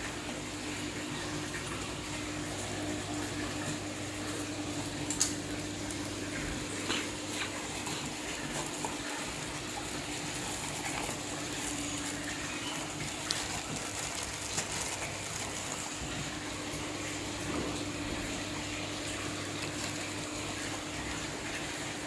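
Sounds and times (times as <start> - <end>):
aquarium water rushing: 0.0 - 22.0
pump hum: 0.0 - 22.0.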